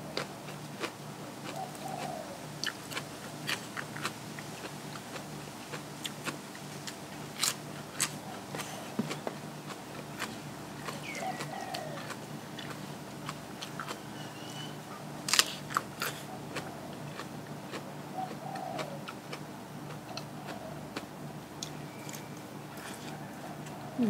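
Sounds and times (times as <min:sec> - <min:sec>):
person chewing and crunching food: 0:00.0 - 0:14.4, 0:15.2 - 0:23.8.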